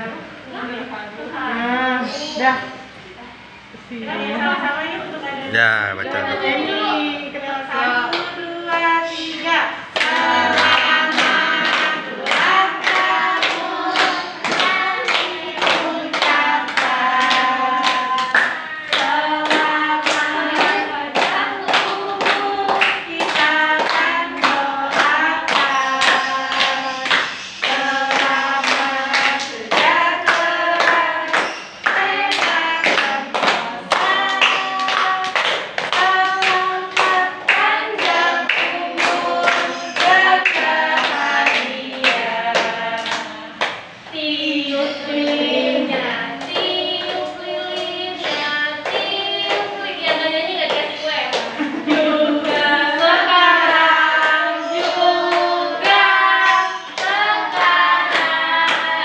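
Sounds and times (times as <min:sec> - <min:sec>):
women and children singing: 0:00.0 - 0:59.0
people clapping along: 0:07.7 - 0:59.0.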